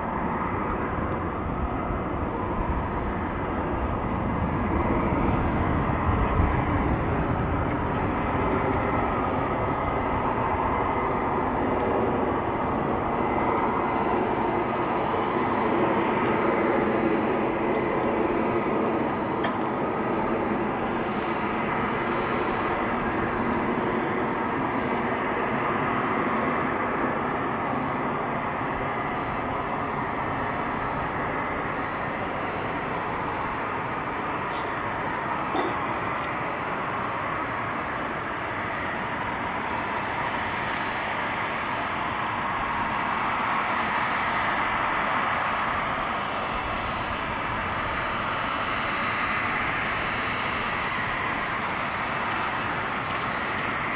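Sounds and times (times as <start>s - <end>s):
jet engines rumbling: 0.0s - 53.9s.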